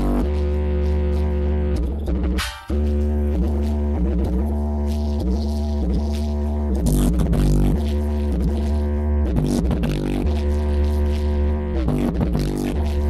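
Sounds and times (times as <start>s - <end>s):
bass-heavy music: 0.0s - 13.0s.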